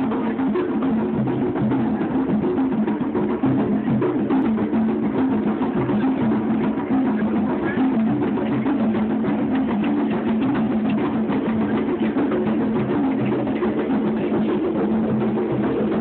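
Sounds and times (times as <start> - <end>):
drums playing busy rhythm: 0.0 - 16.0.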